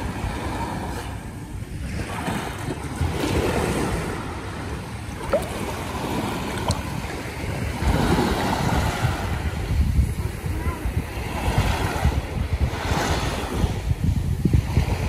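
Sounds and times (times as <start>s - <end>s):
sea water lapping and waves washing: 0.0s - 15.0s
wind rumbling on microphone: 0.0s - 15.0s.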